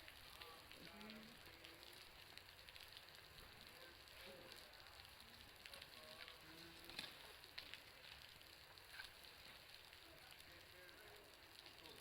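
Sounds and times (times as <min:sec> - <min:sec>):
meltwater dripping from roof: 0:00.0 - 0:12.0.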